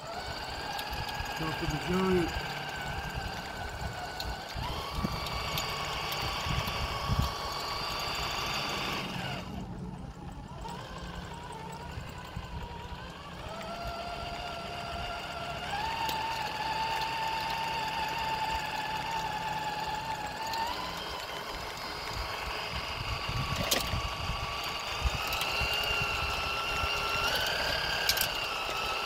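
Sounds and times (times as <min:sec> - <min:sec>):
electric motor and gears whining: 0:00.0 - 0:29.0.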